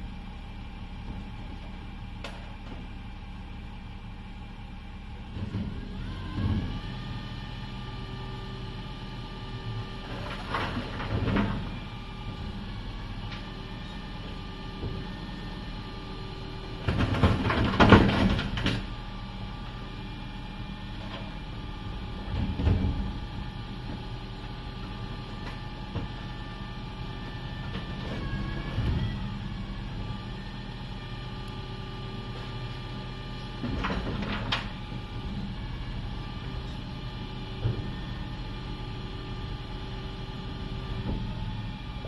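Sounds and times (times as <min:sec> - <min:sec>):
refuse lorry engine running: 0:00.0 - 0:42.0.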